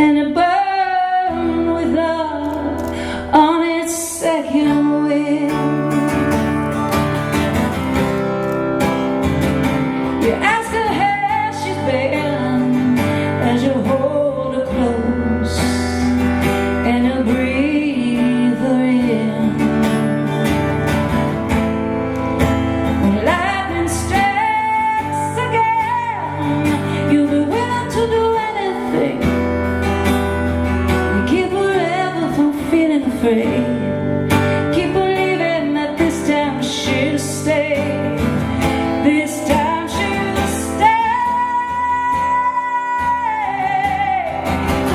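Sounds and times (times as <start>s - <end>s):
woman singing: 0.0s - 7.0s, 10.1s - 20.7s, 22.8s - 29.9s, 30.9s - 44.9s
acoustic guitar: 0.0s - 44.9s.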